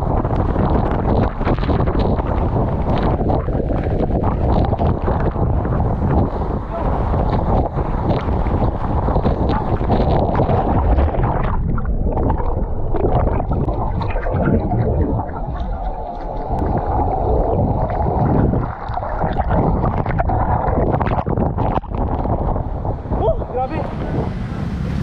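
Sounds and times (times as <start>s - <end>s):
muffled underwater rush of bubbles: 0.0s - 25.0s.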